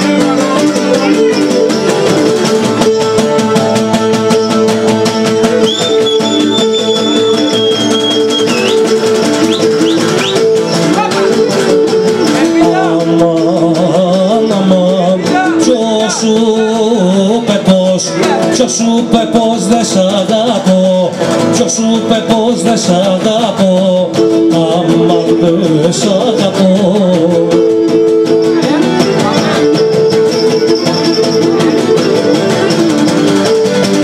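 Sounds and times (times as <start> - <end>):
lutes strumming chords: 0.0 - 34.0.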